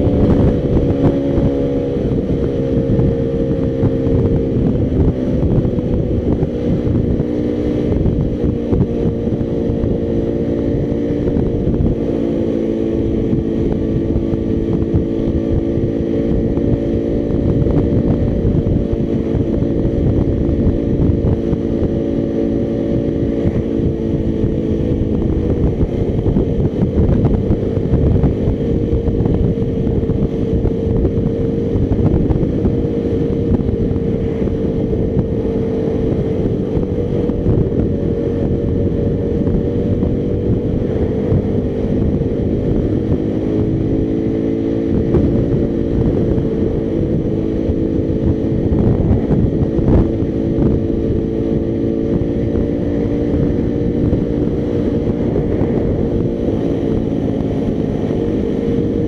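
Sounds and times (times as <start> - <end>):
motorcycle engine running: 0.0 - 59.0
wind rumbling on microphone: 0.0 - 59.0.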